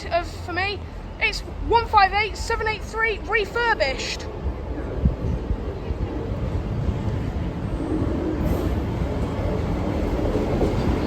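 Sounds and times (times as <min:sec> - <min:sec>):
diesel train engine rumble: 0:00.0 - 0:11.0
train wheels on rail: 0:00.0 - 0:11.0.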